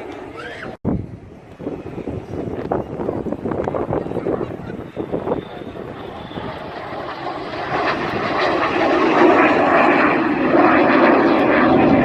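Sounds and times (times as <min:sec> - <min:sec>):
aircraft flying over: 0:00.0 - 0:12.0.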